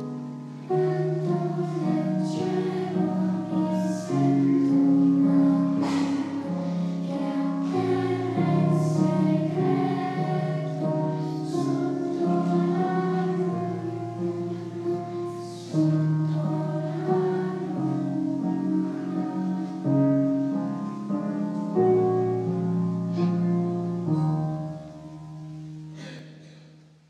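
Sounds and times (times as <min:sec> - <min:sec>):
children's choir singing: 0:00.0 - 0:25.1.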